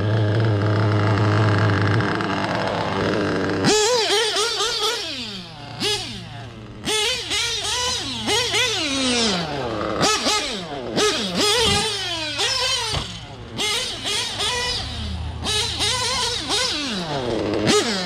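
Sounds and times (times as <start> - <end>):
model car engine revving: 0.0 - 18.0.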